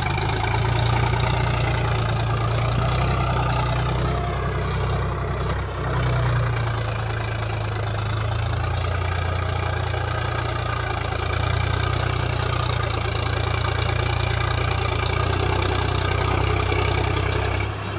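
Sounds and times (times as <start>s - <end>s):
tractor diesel engine under load: 0.0s - 17.9s.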